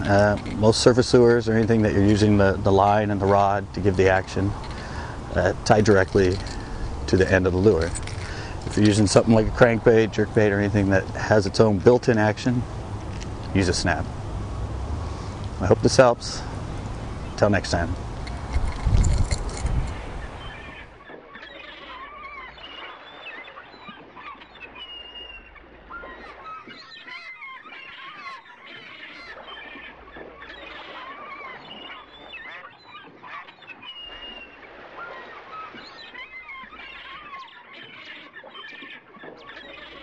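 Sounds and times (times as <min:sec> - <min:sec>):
waterfowl calling: 0:00.0 - 0:12.7, 0:19.1 - 0:40.0.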